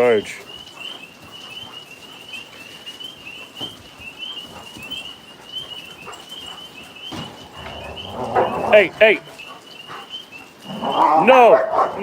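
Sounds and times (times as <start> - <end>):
faint rustles: 0.0 - 12.0
tree frogs trilling: 0.0 - 12.0.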